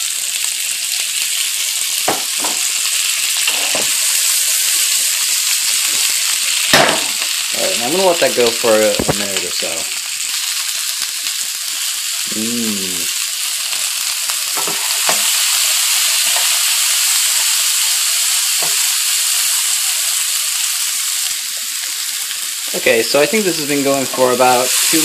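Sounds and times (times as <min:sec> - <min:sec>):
beans sizzling in oil: 0:00.0 - 0:25.0.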